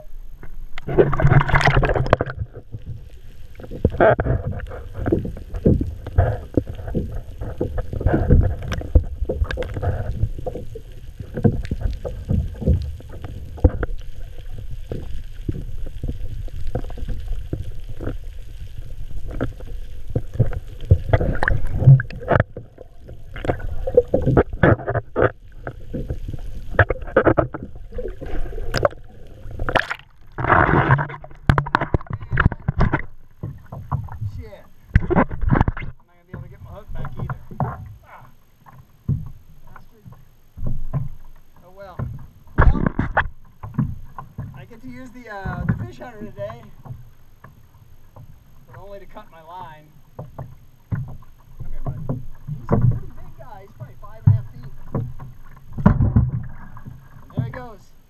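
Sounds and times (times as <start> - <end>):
underwater knocks and thumps: 0.0 - 57.9
underwater rumbling and sloshing: 0.0 - 58.0.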